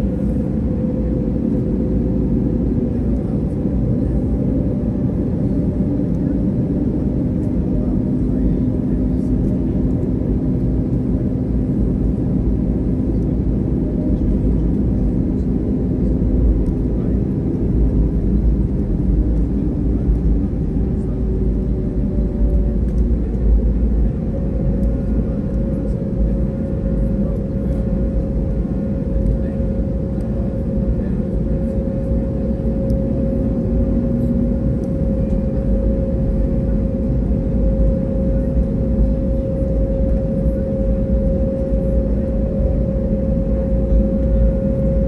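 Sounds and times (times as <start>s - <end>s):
low aircraft cabin rumble: 0.0s - 45.0s.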